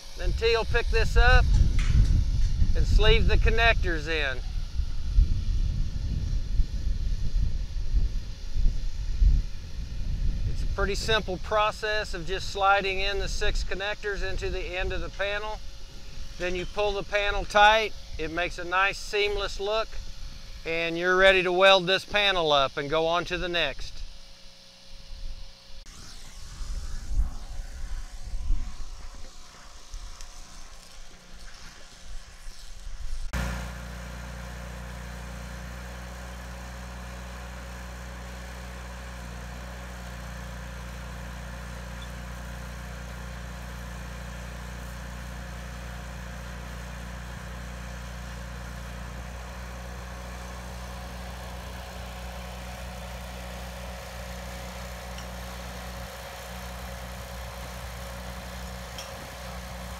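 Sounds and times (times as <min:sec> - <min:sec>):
welder engine droning: 0:00.0 - 0:59.9.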